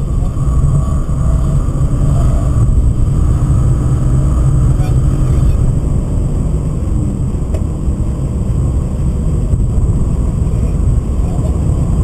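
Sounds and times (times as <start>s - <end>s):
car engine running: 0.0s - 12.0s
tyre and wind rumble: 0.0s - 12.0s.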